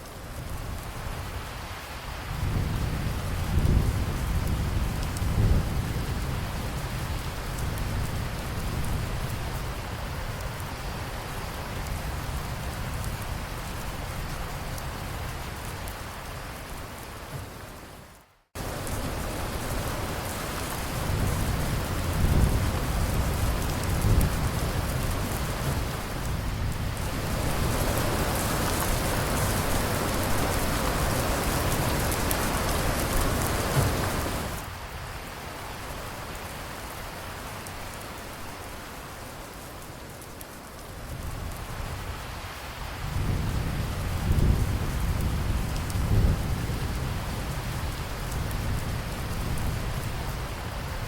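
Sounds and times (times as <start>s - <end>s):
steady rain hissing: 0.0s - 51.0s.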